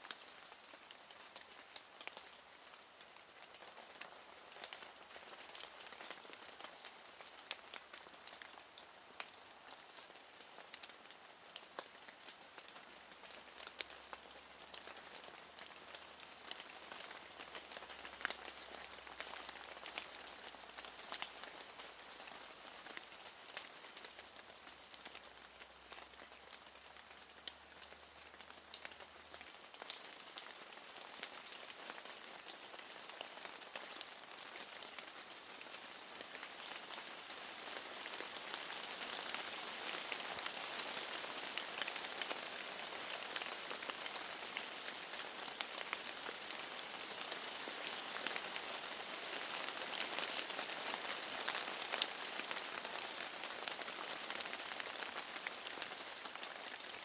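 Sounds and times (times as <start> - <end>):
sharp ticks of raindrops: 0.0 - 57.0
steady rain: 0.0 - 57.0.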